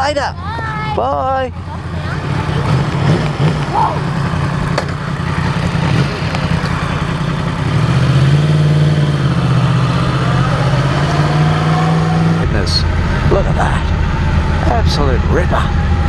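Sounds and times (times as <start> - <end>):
motorcycle engine riding slowly: 0.0 - 11.6, 12.4 - 16.0.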